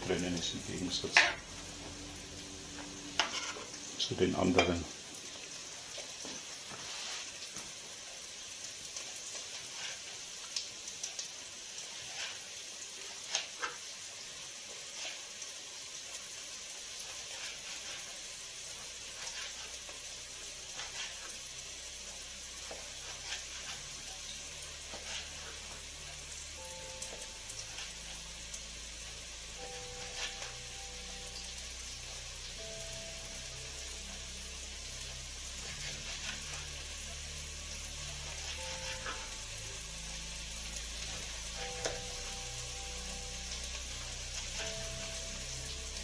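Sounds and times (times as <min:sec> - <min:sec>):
soft background music: 0:00.0 - 0:07.3, 0:14.9 - 0:46.0
sausages sizzling and popping: 0:00.0 - 0:46.0.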